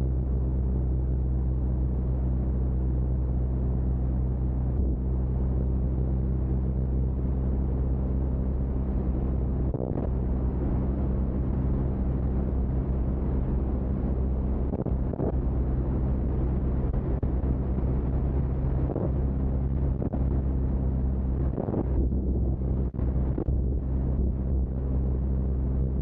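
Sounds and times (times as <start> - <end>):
propeller engine droning: 3.1 - 26.0.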